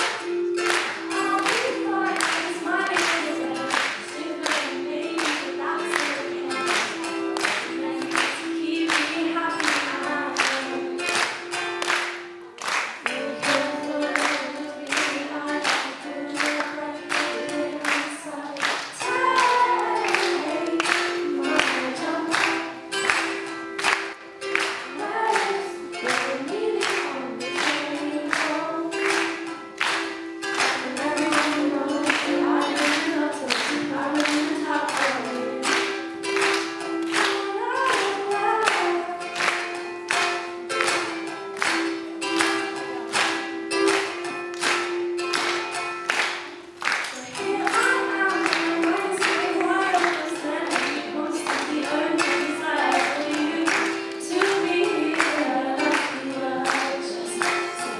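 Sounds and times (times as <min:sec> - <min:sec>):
woman singing: 0:00.0 - 0:12.0, 0:13.0 - 0:23.5, 0:24.5 - 0:41.1, 0:47.0 - 0:57.9
ukulele strumming: 0:00.0 - 0:57.9.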